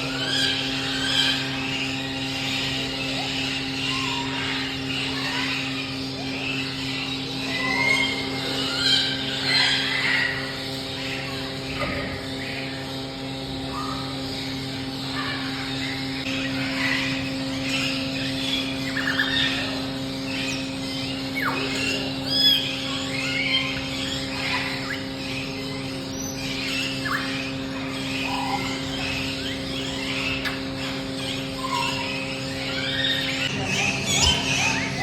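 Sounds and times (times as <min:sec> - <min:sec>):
many birds chirping: 0:00.0 - 0:35.0
steady low hum: 0:00.0 - 0:35.0.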